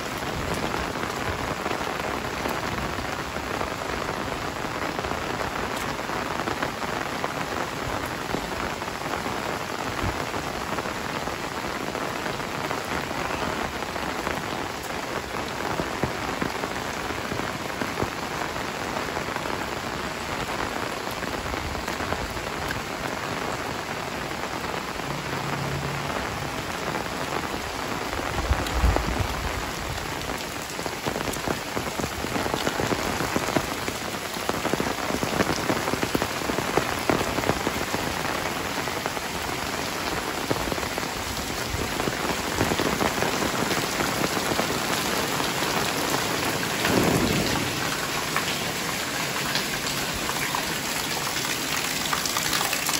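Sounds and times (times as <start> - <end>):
heavy rain on pavement and roofs: 0.0 - 52.9.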